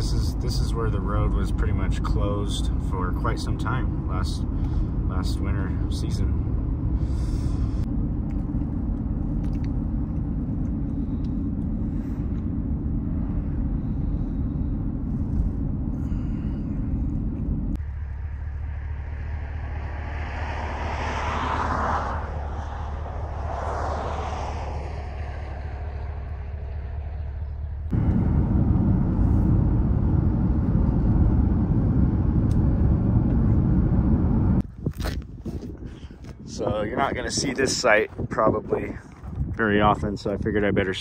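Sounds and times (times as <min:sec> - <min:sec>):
low steady hum: 0:00.0 - 0:34.7
vehicles passing: 0:00.0 - 0:35.2
road and engine rumble in vehicle: 0:00.0 - 0:41.0.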